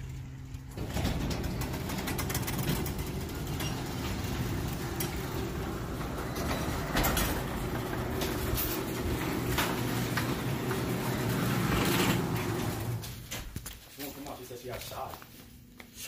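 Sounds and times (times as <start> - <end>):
garage door opener running: 0.0 - 13.4
garage door clicks and rattles: 0.6 - 13.6.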